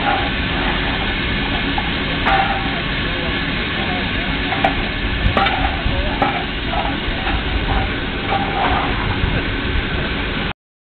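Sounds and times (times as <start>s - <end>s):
low rumble: 0.0s - 10.5s
steam escaping: 0.0s - 10.5s.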